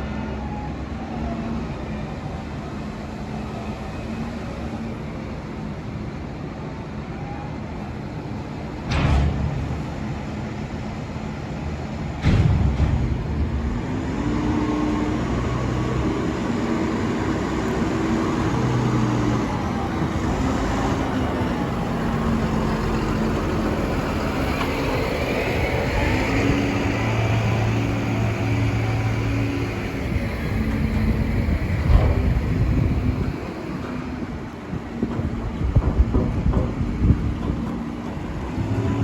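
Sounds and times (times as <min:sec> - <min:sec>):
diesel engine running under load: 0:07.7 - 0:39.0.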